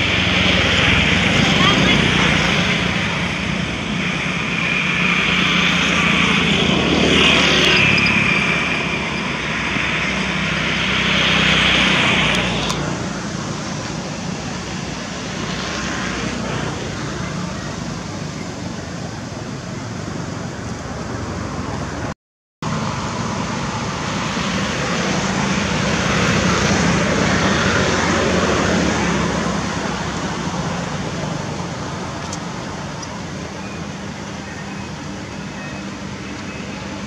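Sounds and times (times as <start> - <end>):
road traffic hum: 0.0 - 37.0.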